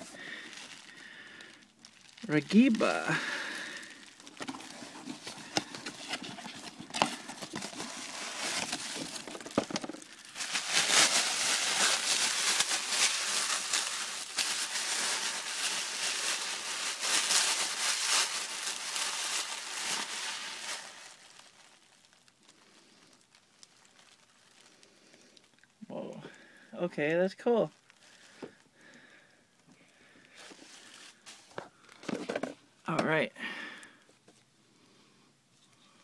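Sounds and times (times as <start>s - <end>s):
packaging crinkling and rustling: 0.0s - 26.5s, 27.4s - 33.1s.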